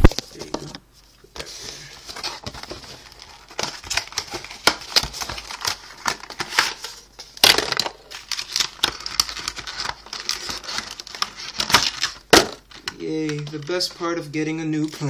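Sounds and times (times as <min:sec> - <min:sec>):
plastic and cardboard crinkling: 0:00.0 - 0:14.2.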